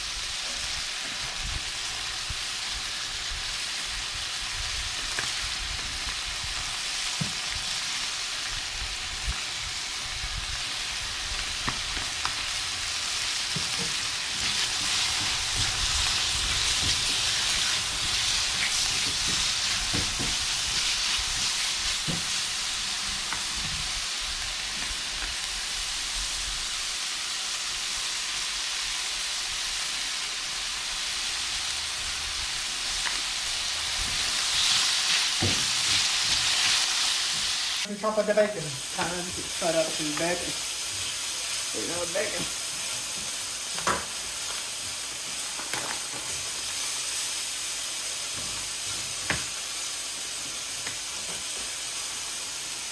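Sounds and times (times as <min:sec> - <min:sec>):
chicken sizzling in a frying pan: 0:00.0 - 0:52.9.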